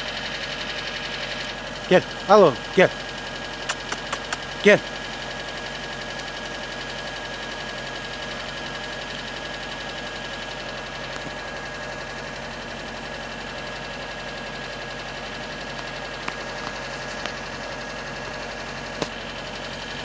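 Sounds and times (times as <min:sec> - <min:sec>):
engine idling with high whine: 0:00.0 - 0:20.0.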